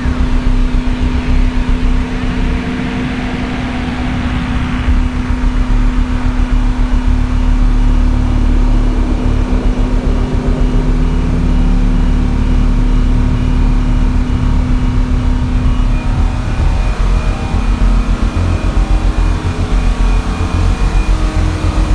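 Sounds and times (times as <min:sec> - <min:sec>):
diesel generator droning: 0:00.0 - 0:21.9.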